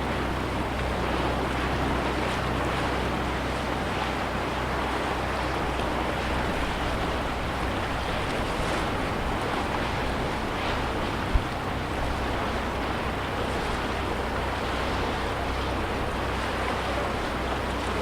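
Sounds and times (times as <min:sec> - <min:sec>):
lake waves lapping against shore: 0:00.0 - 0:18.0.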